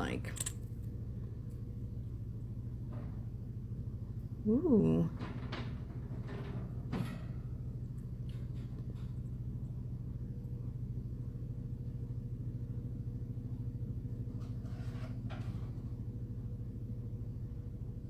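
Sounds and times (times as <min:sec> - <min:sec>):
low hum with fast flutter: 0:00.0 - 0:18.0.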